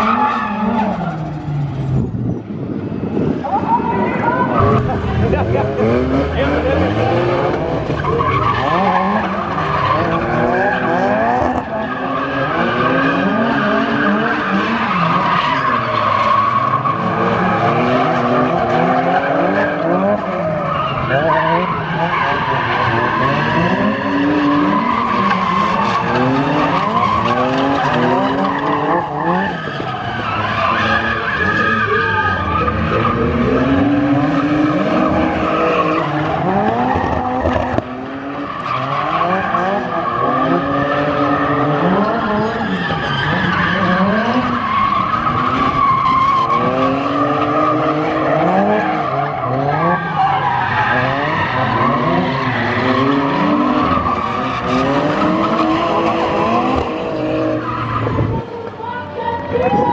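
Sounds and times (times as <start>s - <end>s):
car engine revving hard: 4.6s - 31.8s, 32.4s - 58.4s.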